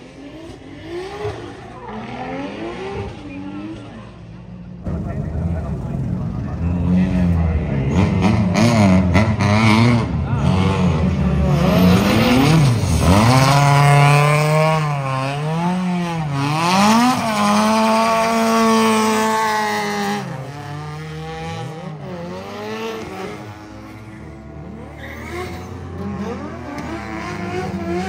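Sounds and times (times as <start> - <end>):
car engine revving hard: 0.2 - 3.8, 6.8 - 28.0.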